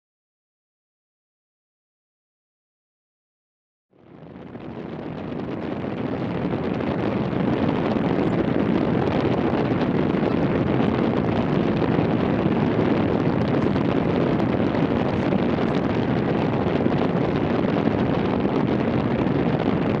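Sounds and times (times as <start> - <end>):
wind buffeting microphone: 4.0 - 20.0.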